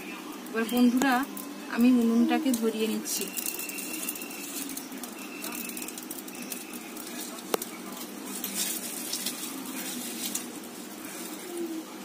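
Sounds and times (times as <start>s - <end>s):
fire crackling in a stove: 0.0s - 12.0s.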